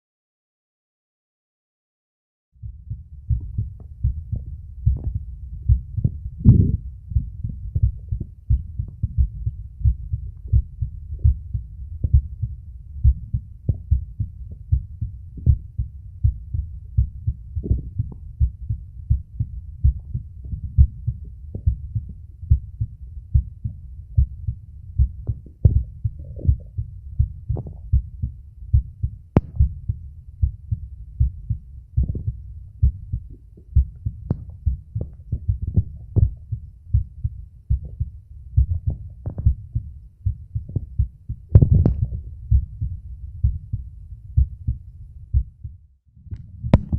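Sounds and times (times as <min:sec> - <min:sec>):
heartbeat low paired thumps: 0:02.6 - 0:46.9.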